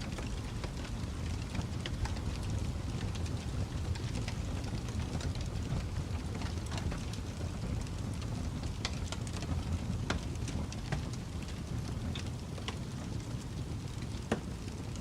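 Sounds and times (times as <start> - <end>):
low rumble of burning: 0.0 - 15.0
wood fire crackling and popping: 0.0 - 15.0.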